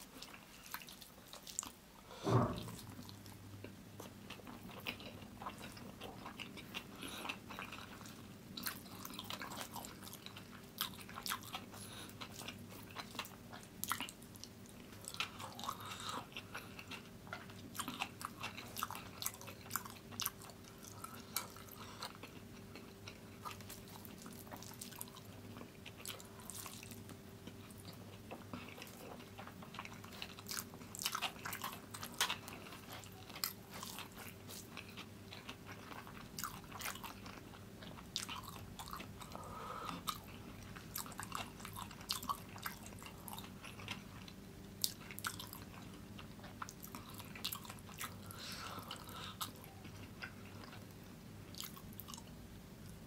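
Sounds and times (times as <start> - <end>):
chewing and mouth smacks: 0.0 - 1.8, 2.9 - 53.0
faint steady hum: 0.0 - 53.0.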